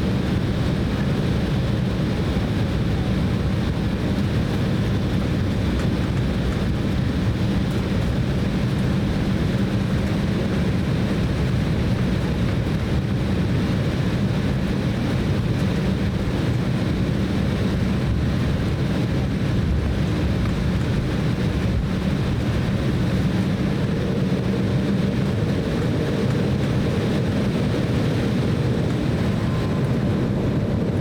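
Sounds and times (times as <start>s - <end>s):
airliner cabin engine rumble: 0.0s - 31.0s.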